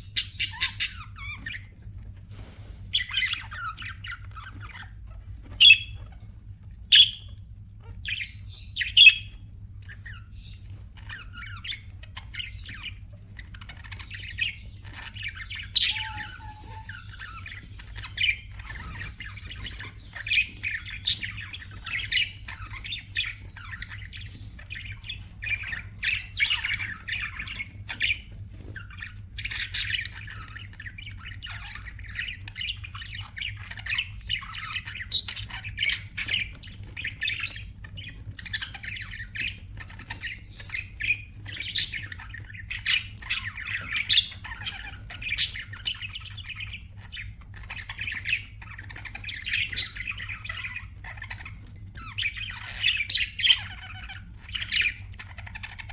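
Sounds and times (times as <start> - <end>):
bird squawks: 0.0 - 1.7, 7.9 - 55.9
budgerigars chattering: 0.0 - 1.8, 2.9 - 6.2, 6.9 - 55.9
faint low hum: 0.0 - 55.9.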